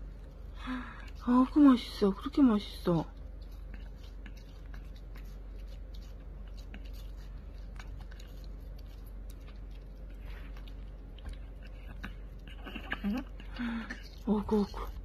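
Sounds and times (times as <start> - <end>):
puppy licking and nibbling fruit: 0.0 - 15.0.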